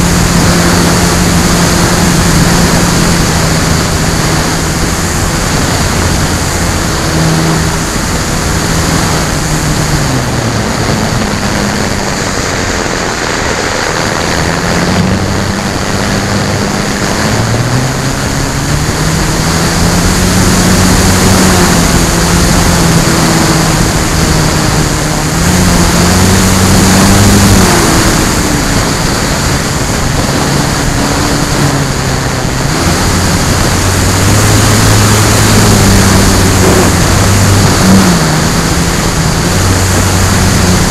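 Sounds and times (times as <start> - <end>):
electric motor and propeller hum: 0.0 - 40.9
wind rushing over microphone: 0.0 - 40.9.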